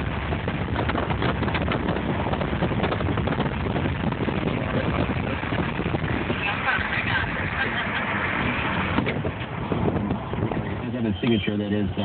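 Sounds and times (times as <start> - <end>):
car interior road rush: 0.0 - 12.0.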